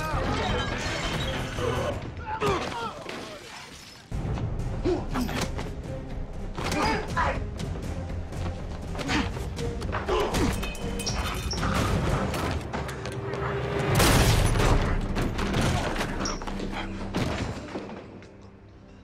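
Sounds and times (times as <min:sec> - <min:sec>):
tense action music: 0:00.0 - 0:02.7, 0:04.1 - 0:19.0.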